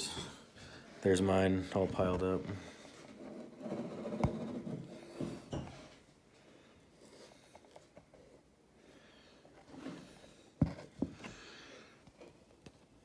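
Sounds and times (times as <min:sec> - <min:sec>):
faint handling noises: 0:00.0 - 0:13.0.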